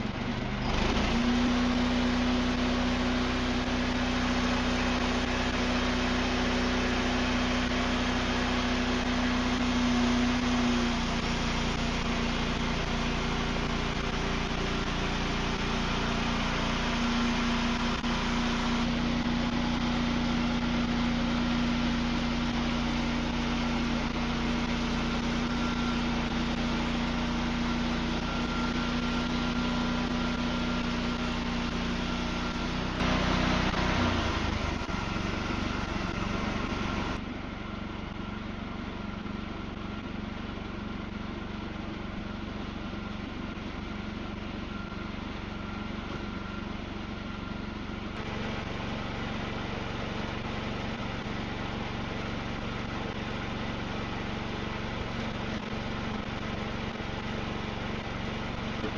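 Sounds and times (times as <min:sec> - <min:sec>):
band sawmill running: 0:00.0 - 0:58.9.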